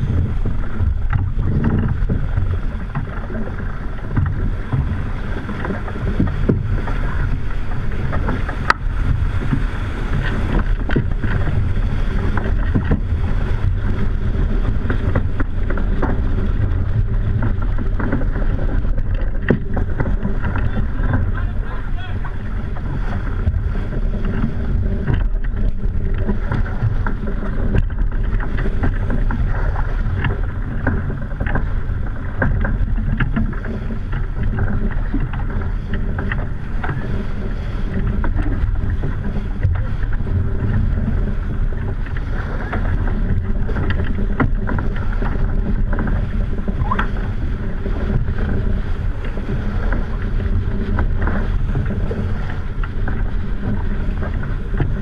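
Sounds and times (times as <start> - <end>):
water rushing past hull: 0.0 - 55.0
wind rumbling on microphone: 0.0 - 55.0.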